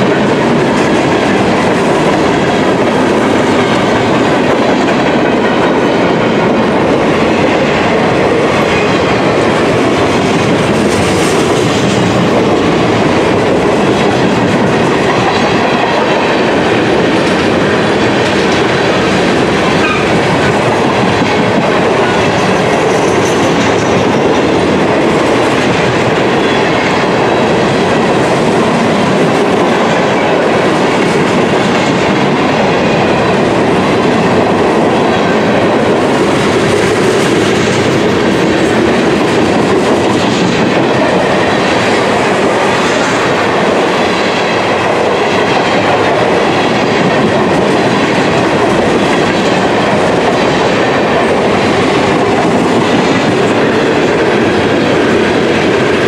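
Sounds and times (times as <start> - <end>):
train wheels rolling on rails: 0.0 - 56.0.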